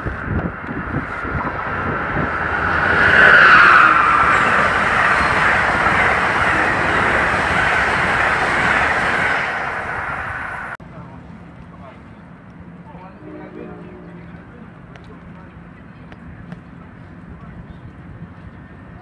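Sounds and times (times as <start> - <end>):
passenger train passing: 0.0 - 19.0.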